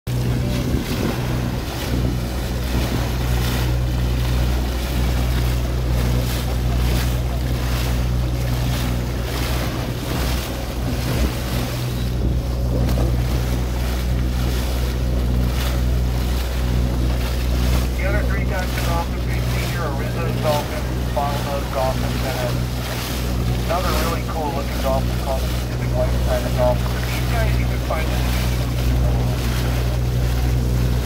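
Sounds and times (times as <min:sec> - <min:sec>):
boat engine droning: 0:00.0 - 0:31.0
bow wave splashing against hull: 0:00.1 - 0:31.0
wind buffeting microphone: 0:00.1 - 0:31.0.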